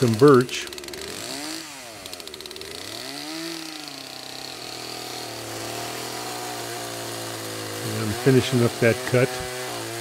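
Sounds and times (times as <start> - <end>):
chainsaw cutting log: 0.0 - 10.0.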